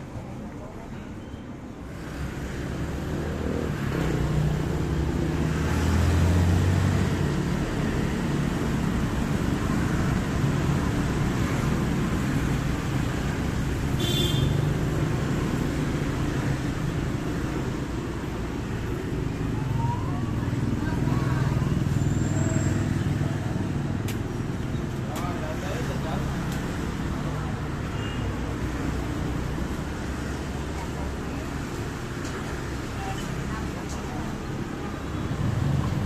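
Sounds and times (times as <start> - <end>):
passing vehicle engines: 1.8 - 36.0.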